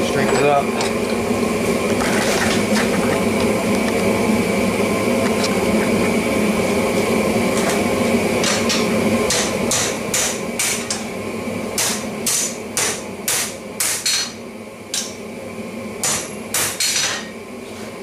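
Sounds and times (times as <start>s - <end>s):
gas forge burner rushing: 0.0s - 18.0s.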